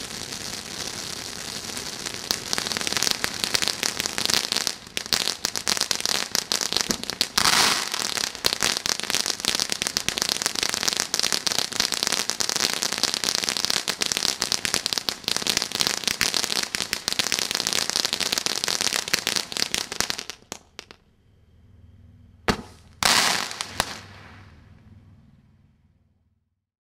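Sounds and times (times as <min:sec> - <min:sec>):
loud gush of sparks: 0:00.0 - 0:20.9, 0:22.5 - 0:24.6
firework fountain crackling: 0:00.0 - 0:21.0, 0:22.5 - 0:24.8
sharp firework crack: 0:00.0 - 0:21.0, 0:22.5 - 0:24.8.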